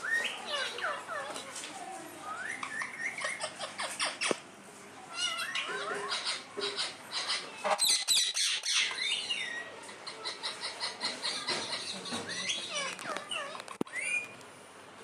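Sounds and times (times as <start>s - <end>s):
parakeets chirping and chattering: 0.0s - 1.6s, 2.2s - 4.5s, 5.1s - 14.4s.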